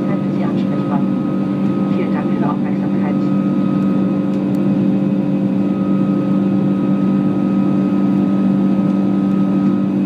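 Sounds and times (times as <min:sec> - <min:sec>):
aircraft engine drone in cabin: 0:00.0 - 0:10.0.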